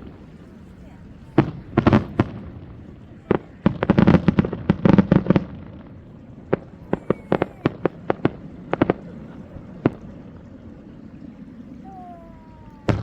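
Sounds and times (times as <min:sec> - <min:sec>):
fireworks bangs: 0:00.0 - 0:10.3, 0:11.8 - 0:13.0.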